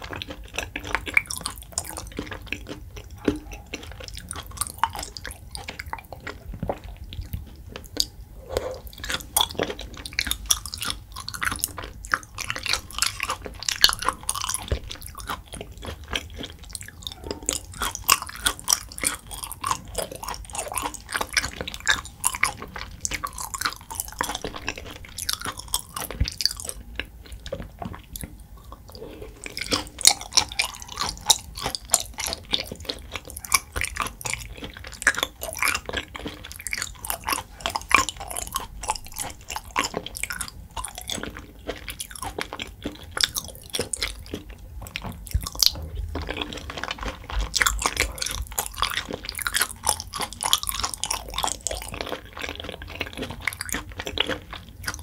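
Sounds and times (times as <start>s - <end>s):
mouth chewing with clicks: 0.0s - 55.0s.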